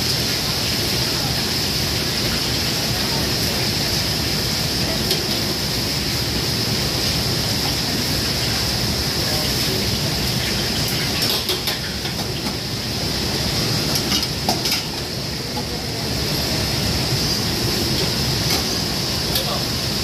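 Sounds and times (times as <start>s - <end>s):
beef sizzling in a wok: 0.0s - 20.0s
gas burners hissing: 0.0s - 20.0s.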